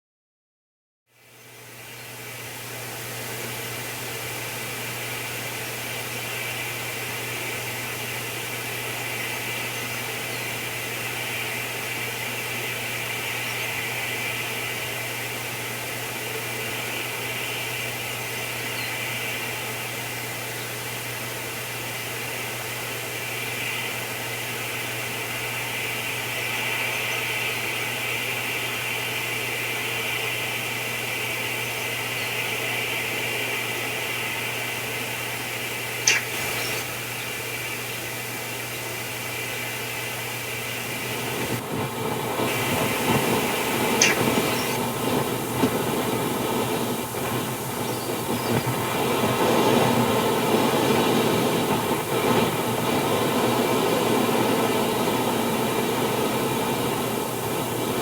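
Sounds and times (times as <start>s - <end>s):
steady hiss: 1.1s - 58.0s
constant low hum: 1.3s - 58.0s.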